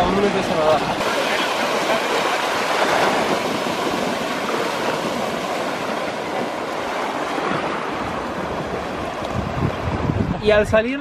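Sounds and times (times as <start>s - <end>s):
swimmers splashing: 0.0s - 10.0s
sea surf: 0.0s - 11.0s.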